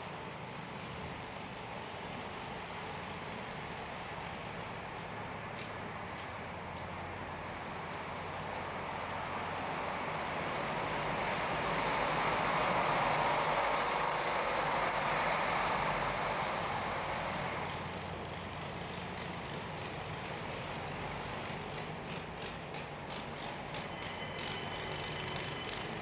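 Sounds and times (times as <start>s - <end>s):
low city hum: 1.2s - 26.0s.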